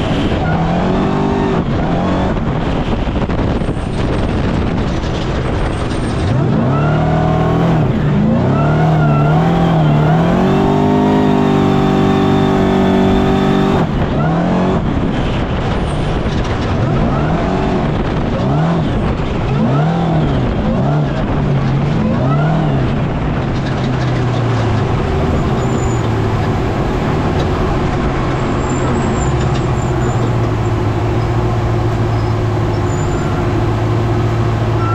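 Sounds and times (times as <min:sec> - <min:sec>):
race car engine revving: 0:00.0 - 0:15.5, 0:16.1 - 0:34.9
rattle and road noise: 0:00.0 - 0:34.9.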